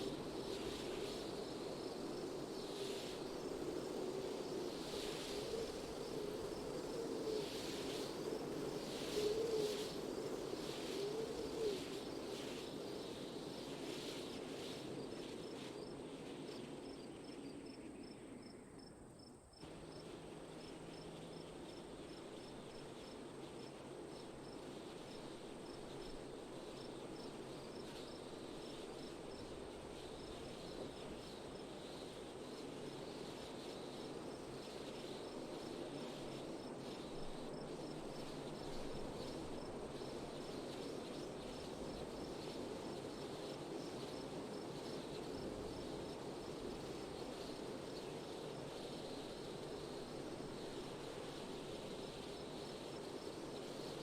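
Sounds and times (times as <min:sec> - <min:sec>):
crickets chirping: 0:00.0 - 0:54.0
steady wind: 0:00.0 - 0:54.0.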